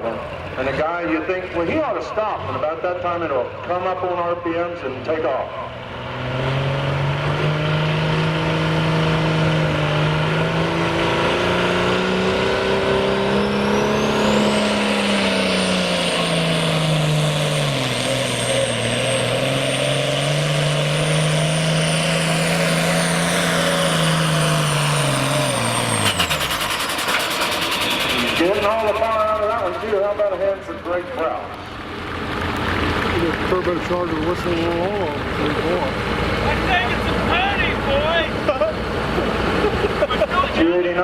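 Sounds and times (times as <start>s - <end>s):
diesel tractor engine under load: 0.0s - 41.0s.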